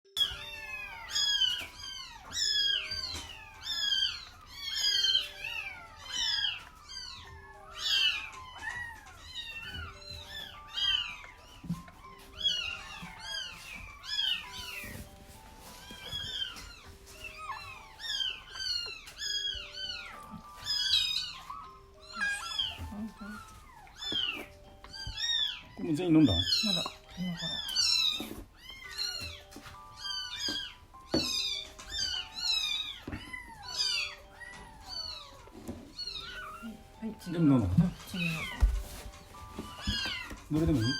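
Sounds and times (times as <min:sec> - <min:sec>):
soft background music: 0:00.1 - 0:40.9
kittens mewing: 0:00.2 - 0:40.9.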